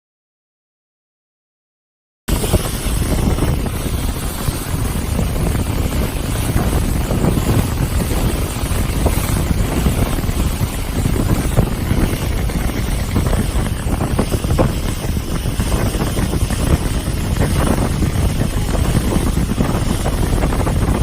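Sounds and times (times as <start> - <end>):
boat running noise: 2.3 - 21.0
water: 2.3 - 21.0
wind buffeting microphone: 2.3 - 21.0.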